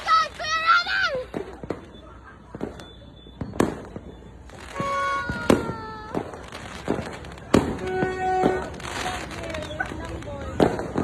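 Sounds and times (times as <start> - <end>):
fireworks banging: 0.0 - 11.0
small fireworks pops: 0.0 - 11.0.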